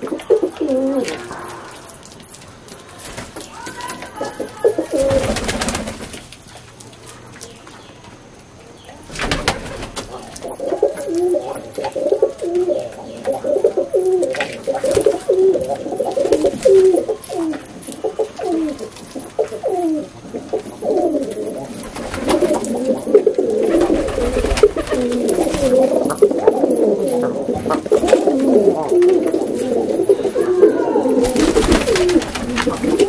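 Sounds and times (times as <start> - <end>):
pigeons cooing: 0.0 - 2.2, 4.0 - 6.3, 8.8 - 33.0.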